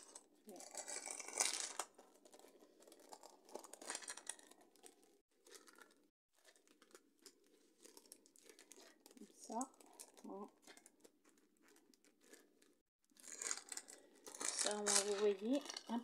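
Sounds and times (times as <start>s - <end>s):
plastic packet crinkling: 0.0s - 16.0s.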